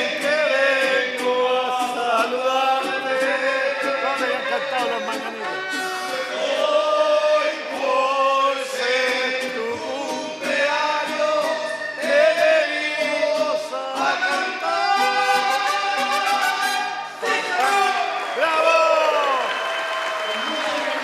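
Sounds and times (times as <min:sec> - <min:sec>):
men singing: 0:00.0 - 0:18.0
mariachi band playing: 0:00.0 - 0:21.0.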